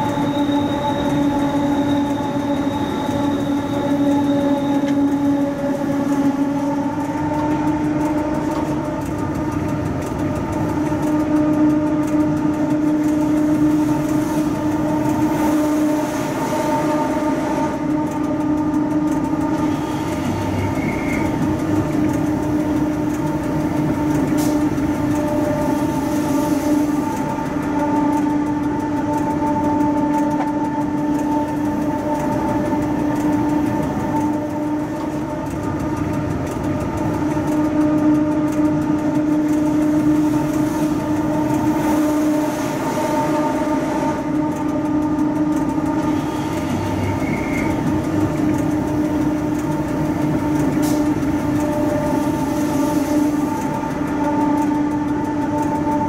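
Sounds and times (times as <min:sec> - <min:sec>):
electric locomotive hum: 0:00.0 - 0:56.0
wheels running on rails: 0:00.0 - 0:56.0.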